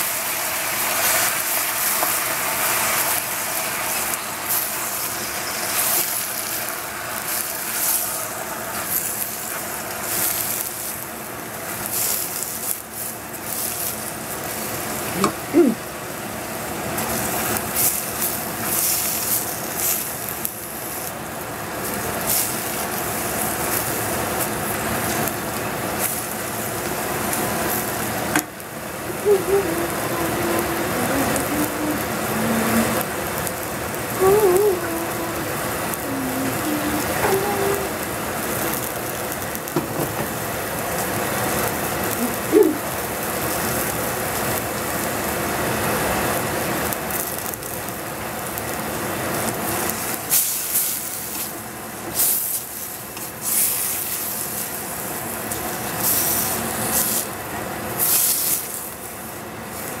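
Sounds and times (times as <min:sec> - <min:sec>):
greens sizzling in oil: 0:00.0 - 1:00.0.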